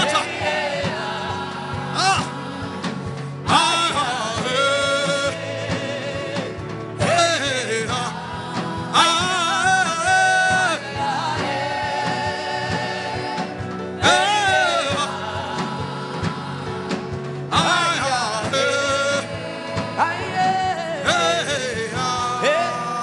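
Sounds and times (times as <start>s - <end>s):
solo voice singing: 0.0s - 23.0s
sustained instrumental backing: 0.0s - 23.0s.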